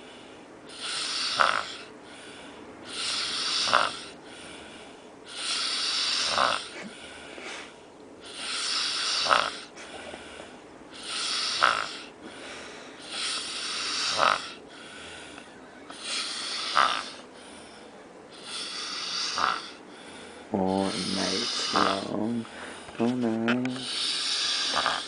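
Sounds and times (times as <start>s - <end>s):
man snoring heavily: 0.0s - 7.3s, 8.2s - 23.1s, 23.7s - 25.0s.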